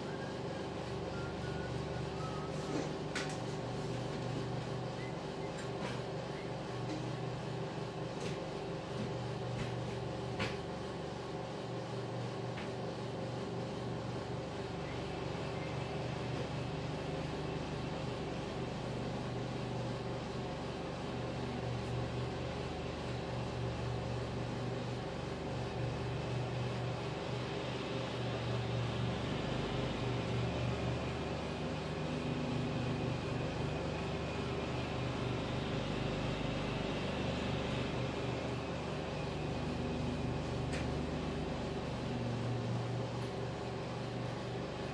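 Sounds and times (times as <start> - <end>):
steady mechanical hum: 0.0 - 44.9.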